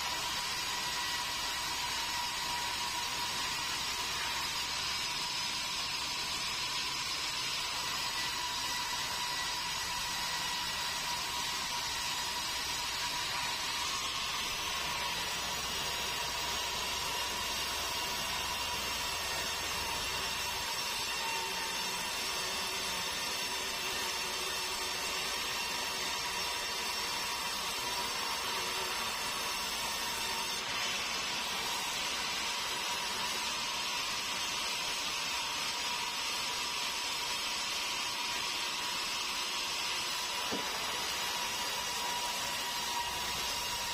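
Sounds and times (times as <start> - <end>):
band saw cutting log: 0.0 - 43.9.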